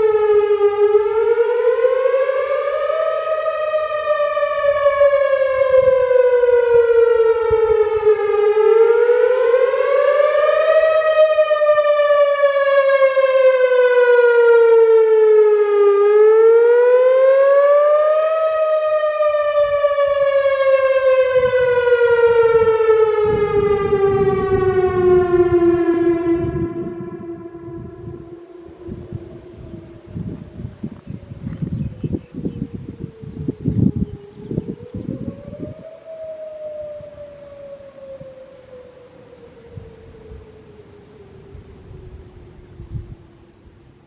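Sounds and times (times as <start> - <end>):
warning siren wailing: 0.0 - 44.0.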